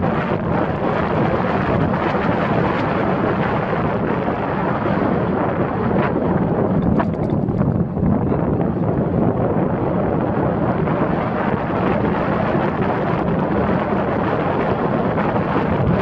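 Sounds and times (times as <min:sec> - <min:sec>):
car road and tyre noise: 0:00.0 - 0:16.0
wind rushing over microphone: 0:00.0 - 0:16.0.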